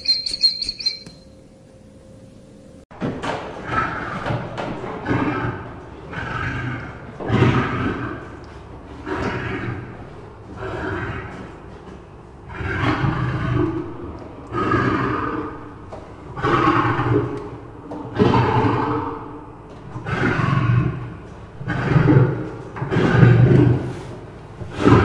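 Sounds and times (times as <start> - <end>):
lion roaring: 3.6 - 11.8, 12.4 - 25.0.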